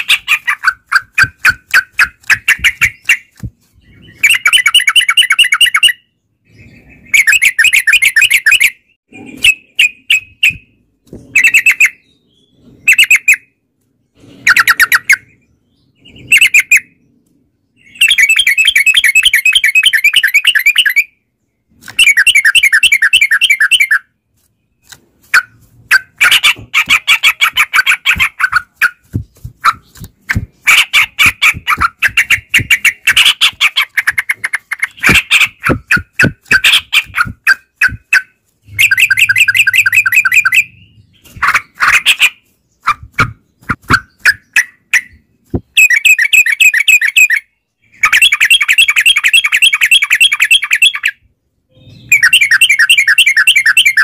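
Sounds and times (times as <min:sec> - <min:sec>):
birds singing chattering phrases: 0:00.0 - 0:54.0.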